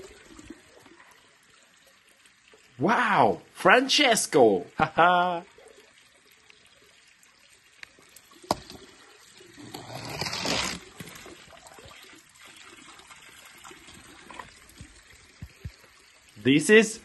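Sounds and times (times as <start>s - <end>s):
water trickling down a slide: 0.0s - 17.0s.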